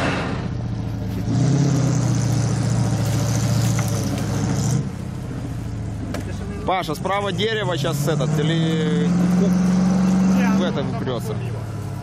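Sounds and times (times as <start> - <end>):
engine revving under load: 0.0 - 5.0, 6.9 - 12.0.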